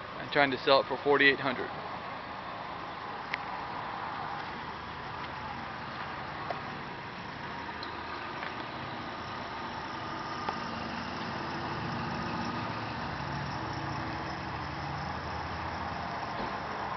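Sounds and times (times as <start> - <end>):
pickup engine idling: 2.0 - 16.9.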